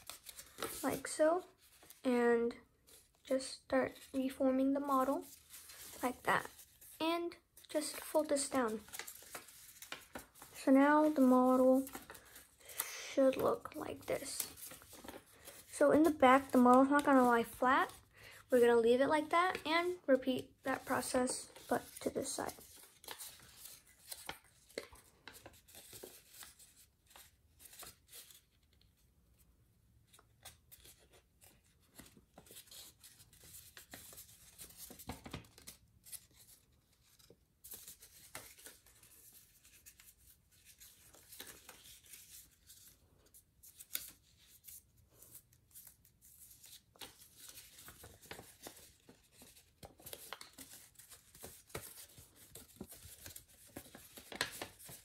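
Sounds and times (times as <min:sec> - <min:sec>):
paper rustling and crinkling: 0:00.0 - 0:02.1, 0:02.8 - 0:07.0, 0:07.6 - 0:29.0, 0:30.0 - 0:55.0.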